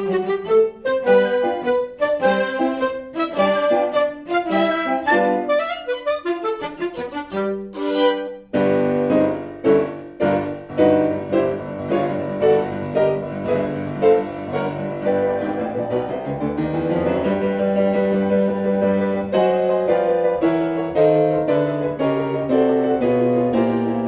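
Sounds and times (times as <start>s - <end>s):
piano notes and chords: 0.0s - 24.0s.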